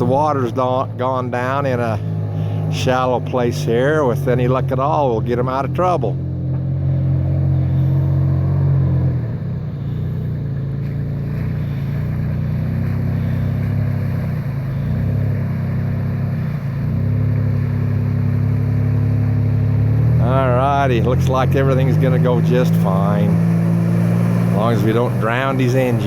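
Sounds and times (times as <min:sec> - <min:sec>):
vehicle engine under load: 0:00.0 - 0:26.0.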